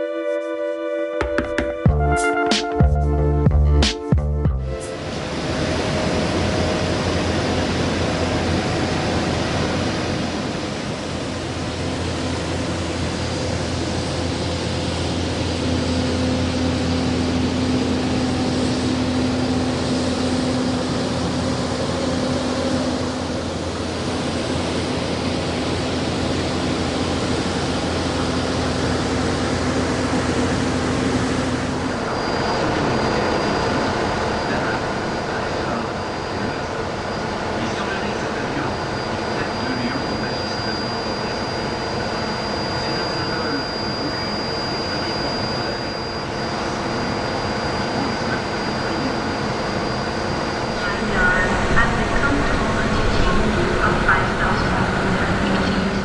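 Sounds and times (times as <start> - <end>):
machinery drone: 0.0 - 56.0
high steady whine: 0.9 - 56.0.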